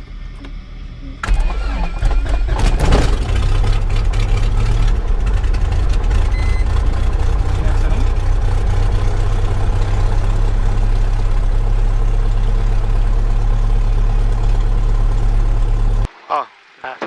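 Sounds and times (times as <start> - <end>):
propeller plane engine idling: 0.2 - 16.1.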